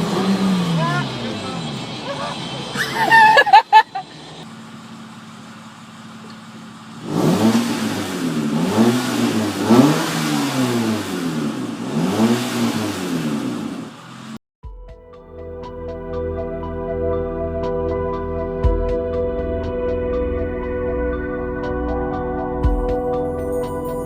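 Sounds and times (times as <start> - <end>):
car engine idling and revving: 0.0 - 3.2, 3.9 - 14.4, 15.1 - 24.0.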